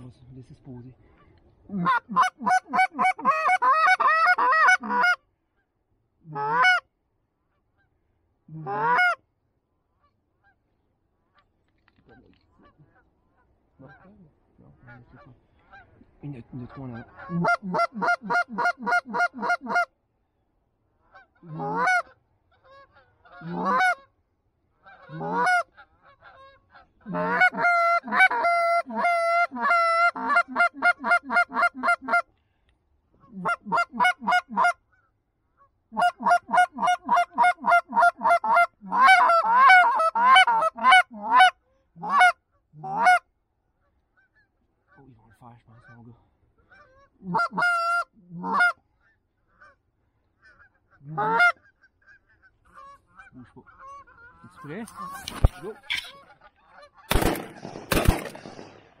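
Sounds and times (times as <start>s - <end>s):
goose honking and clucking: 1.7s - 5.2s, 6.2s - 6.8s, 8.5s - 9.2s, 12.0s - 16.0s, 16.6s - 19.9s, 21.0s - 24.2s, 24.8s - 32.3s, 33.2s - 57.4s.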